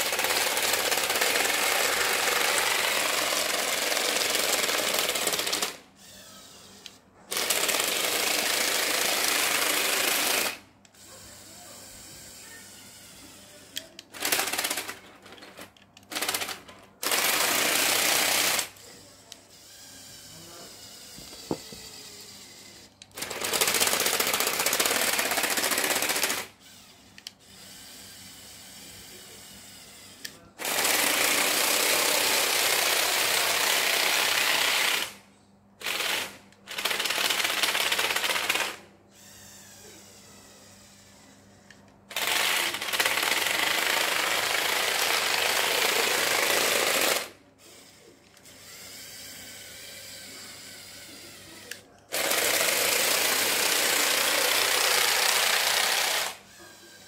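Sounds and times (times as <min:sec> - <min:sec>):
toy vehicle motors and tracks whirring: 0:00.0 - 0:57.0.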